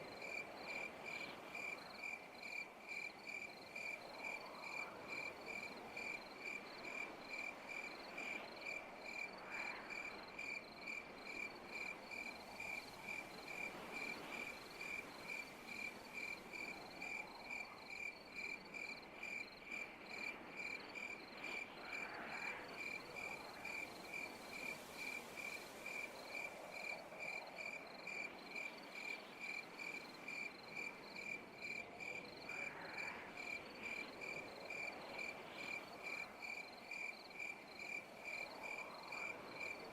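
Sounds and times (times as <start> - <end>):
chorus of insects: 0.0 - 39.9
cricket chirping: 0.0 - 39.9.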